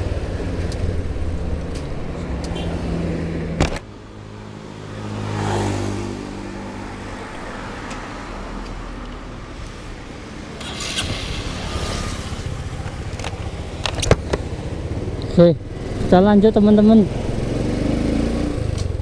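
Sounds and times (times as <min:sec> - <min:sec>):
vehicle passing: 0:00.0 - 0:18.8
low steady traffic rumble: 0:00.0 - 0:19.0.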